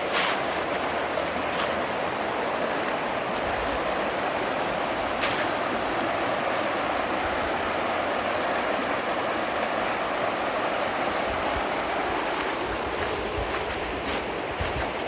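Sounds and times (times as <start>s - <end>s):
river rapids roaring: 0.0s - 15.0s.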